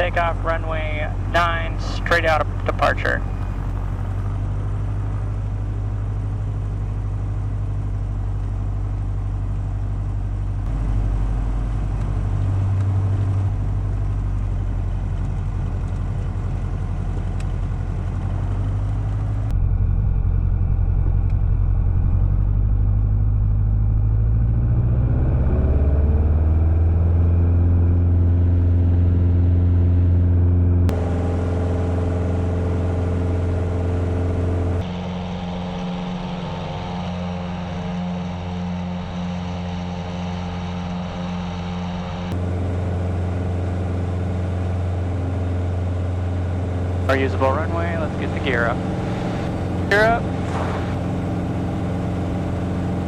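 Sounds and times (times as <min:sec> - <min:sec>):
propeller plane engine drone: 0:00.0 - 0:53.0.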